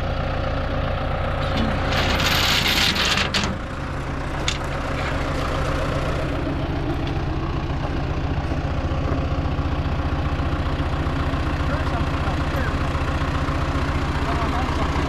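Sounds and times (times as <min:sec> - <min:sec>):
machine engine idling: 0:00.0 - 0:15.0.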